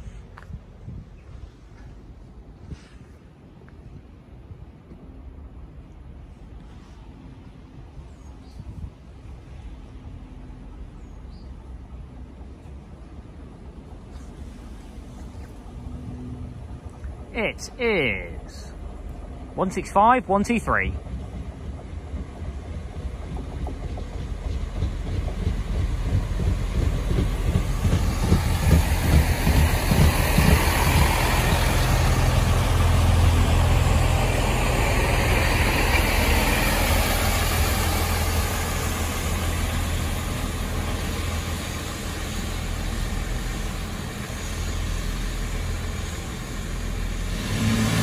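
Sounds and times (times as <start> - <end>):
diesel train engines: 0.0 - 48.0
train wheels on rails: 0.0 - 48.0.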